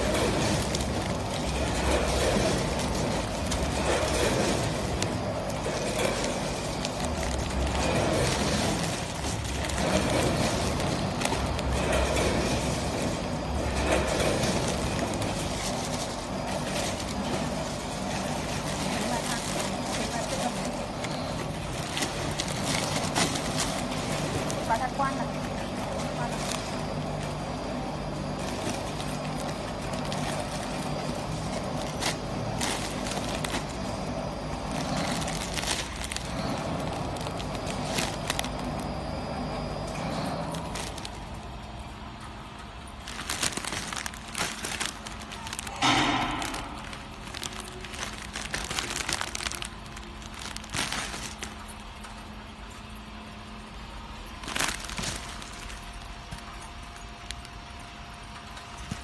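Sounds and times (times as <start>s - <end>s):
packing machine humming: 0.0s - 59.0s
plastic bags crinkling: 0.0s - 59.0s.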